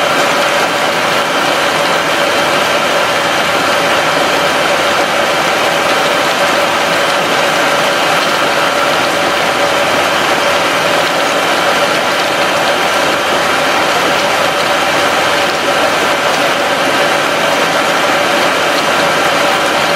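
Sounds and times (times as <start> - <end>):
water boiling hard in a tank: 0.0 - 19.9.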